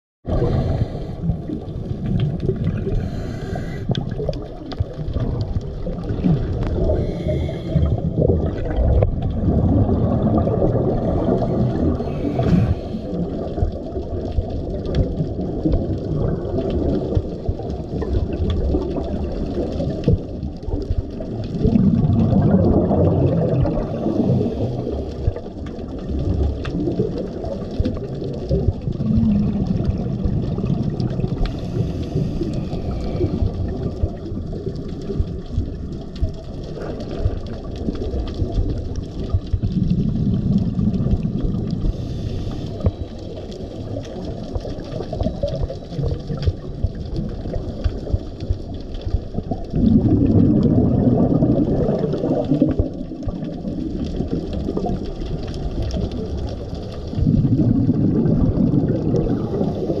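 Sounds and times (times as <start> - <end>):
muffled underwater rumble: 0.2 - 60.0
scuba regulator exhaust bubbles: 0.2 - 60.0.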